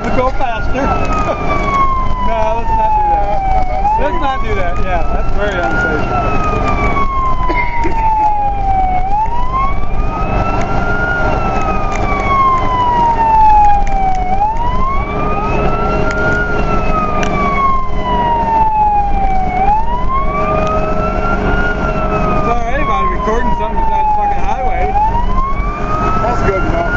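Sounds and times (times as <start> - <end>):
fire truck siren wailing: 0.0 - 26.9
road noise: 0.0 - 26.9
truck engine: 0.0 - 26.9.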